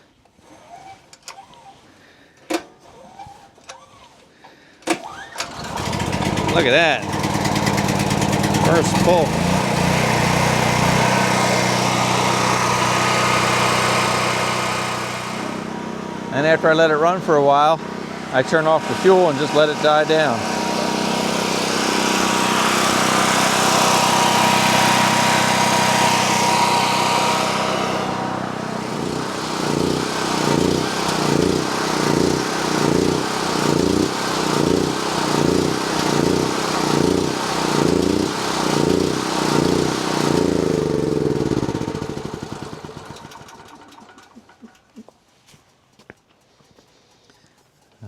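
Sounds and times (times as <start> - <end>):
generator engine running: 5.1 - 44.8.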